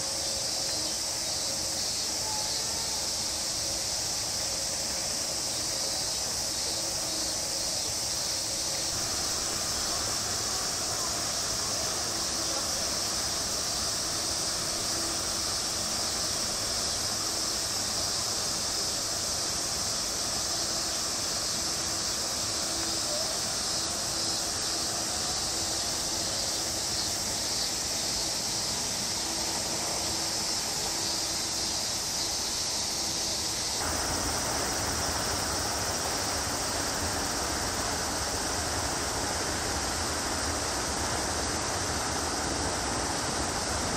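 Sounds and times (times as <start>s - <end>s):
cicada chorus buzzing: 0.0s - 43.9s
outdoor hiss: 0.0s - 43.9s.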